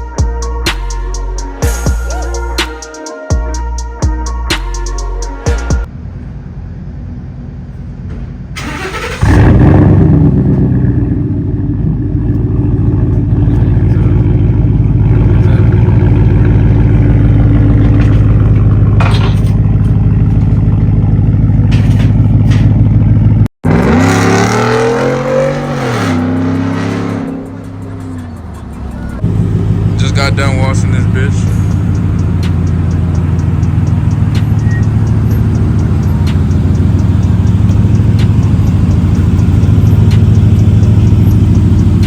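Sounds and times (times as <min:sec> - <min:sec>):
car exhaust rumbling and revving: 0:05.8 - 0:42.0.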